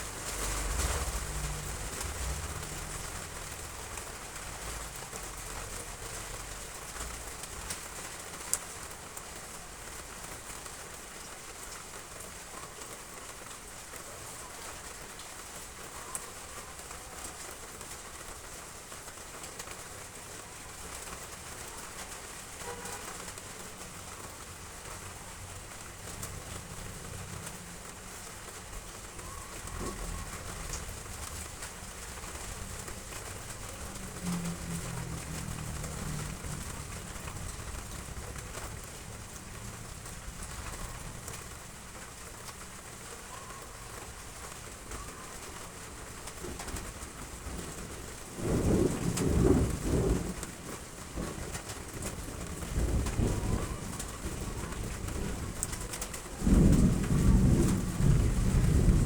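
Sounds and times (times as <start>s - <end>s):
heavy rain on roof tiles: 0.0s - 59.0s.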